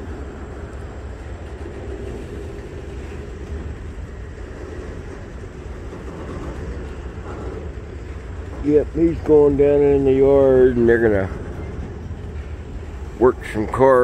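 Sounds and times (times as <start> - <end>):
freight train rolling past: 0.0 - 14.0
steel wheels rumbling on rails: 0.0 - 14.0.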